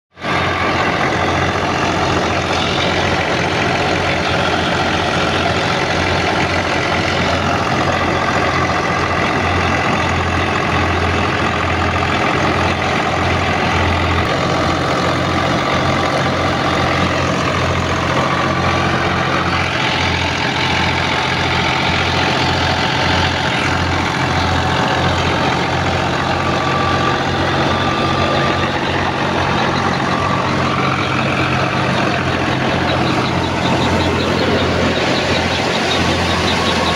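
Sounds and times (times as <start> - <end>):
thresher running: 0.1 - 36.9
tractor diesel engine running: 0.1 - 36.9.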